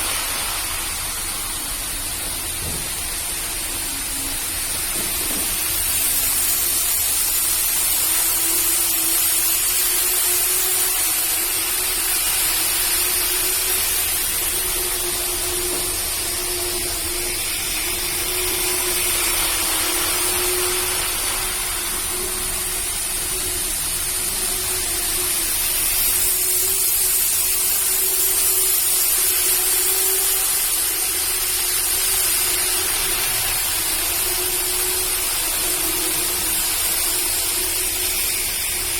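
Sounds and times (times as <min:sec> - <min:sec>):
model train wheels rolling on track: 0:00.0 - 0:38.9.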